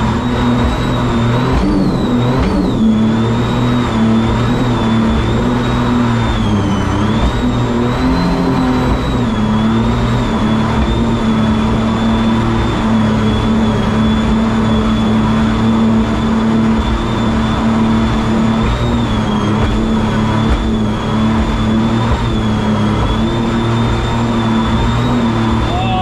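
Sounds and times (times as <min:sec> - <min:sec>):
jet boat engine whining: 0:00.0 - 0:26.0.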